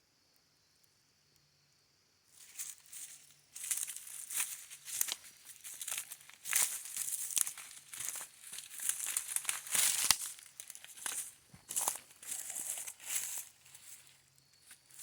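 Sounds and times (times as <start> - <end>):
footsteps crunching through dry leaves: 2.4 - 15.0.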